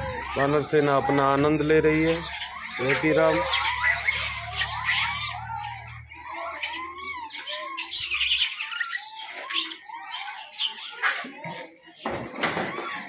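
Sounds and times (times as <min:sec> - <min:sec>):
monkeys squeaking and squealing: 0:00.0 - 0:13.0.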